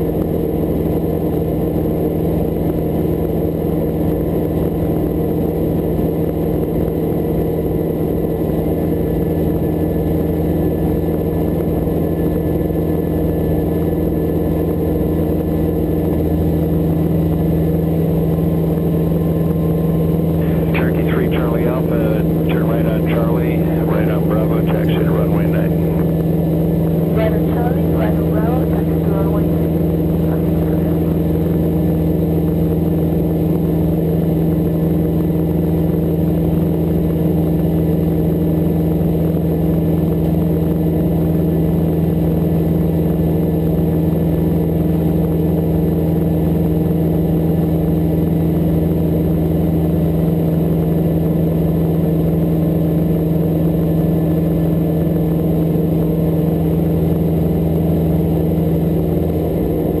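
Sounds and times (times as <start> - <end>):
helicopter engine and rotors drone: 0.0 - 60.0.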